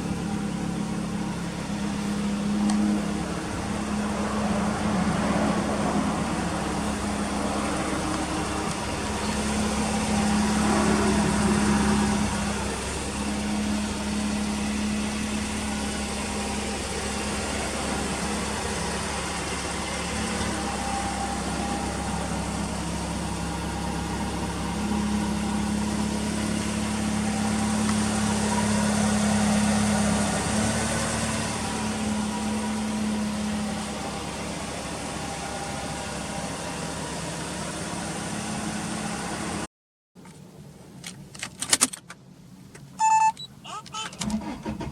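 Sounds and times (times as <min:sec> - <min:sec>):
car engine idling: 0:00.0 - 0:39.6, 0:42.8 - 0:44.9.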